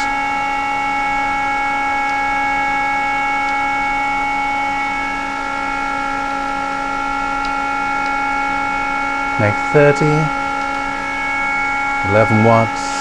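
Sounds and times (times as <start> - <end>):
electronic hum and whine: 0.0 - 13.0.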